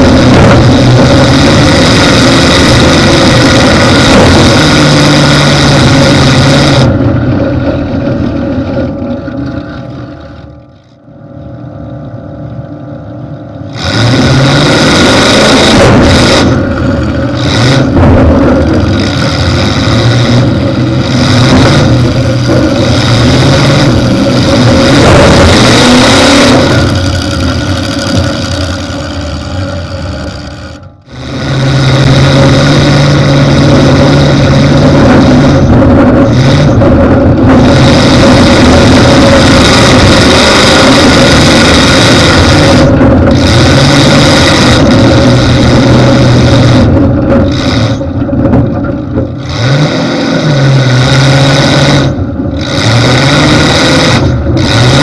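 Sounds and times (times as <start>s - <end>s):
car engine revving loudly: 0.0s - 9.9s, 13.7s - 55.0s.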